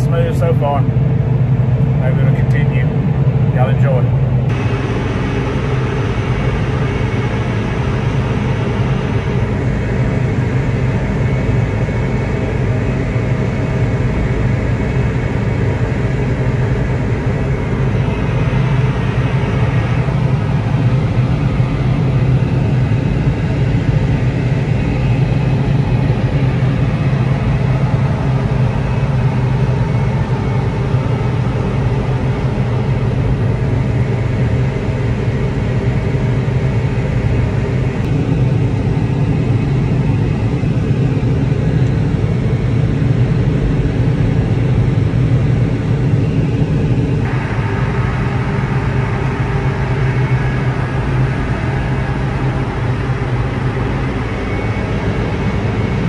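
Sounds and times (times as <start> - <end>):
cotton picker engine and machinery hum: 0.0 - 56.0.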